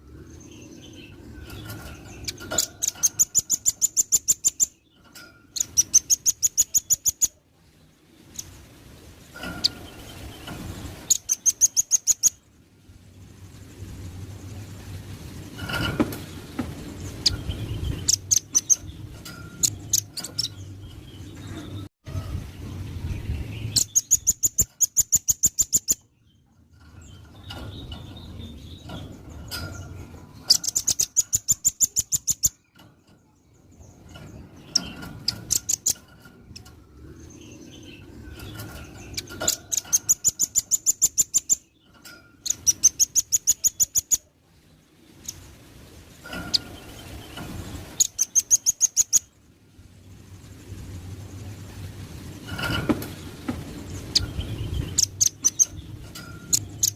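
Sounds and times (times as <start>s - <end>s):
soft bird chattering: 0.4s - 12.5s, 14.6s - 22.3s, 23.2s - 50.0s, 51.4s - 56.9s.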